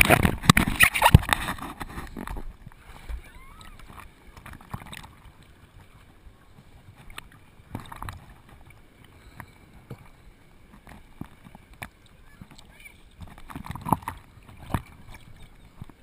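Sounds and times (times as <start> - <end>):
surf water sloshing: 0.0 - 16.0.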